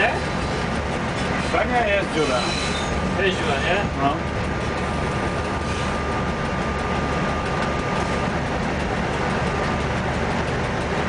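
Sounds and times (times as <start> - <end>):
locomotive engine and rail rumble: 0.0 - 11.0.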